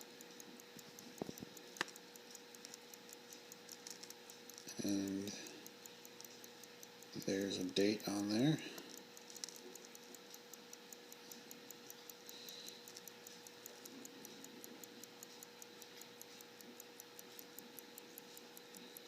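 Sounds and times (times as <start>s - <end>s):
faint steady hum: 0.0s - 19.0s
pocket watch ticking: 0.0s - 19.0s.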